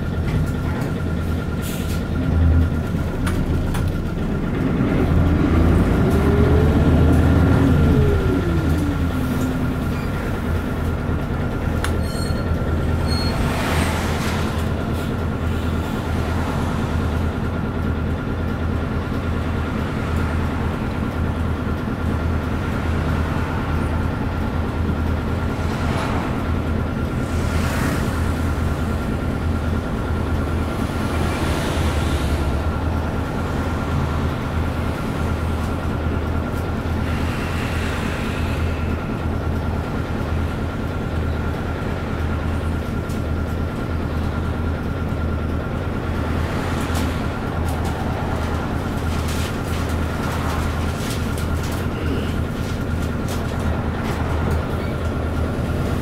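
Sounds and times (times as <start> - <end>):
bus diesel engine idling: 0.0 - 56.0
vehicles passing outside: 0.0 - 56.0.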